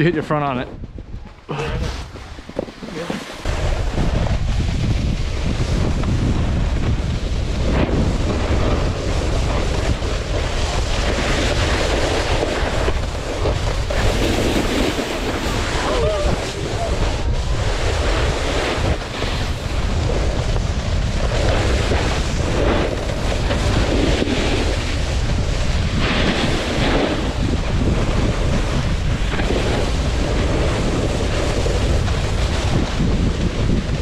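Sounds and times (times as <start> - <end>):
wind buffeting microphone: 0.0 - 34.0
snowboard edges scraping snow: 1.2 - 34.0.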